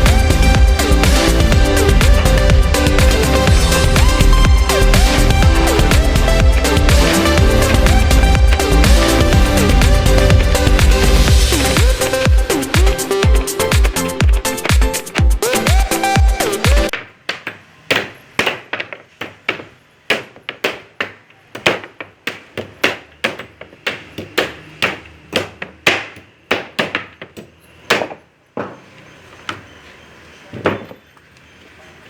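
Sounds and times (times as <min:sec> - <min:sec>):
hammer blows on wood: 0:02.0 - 0:28.2.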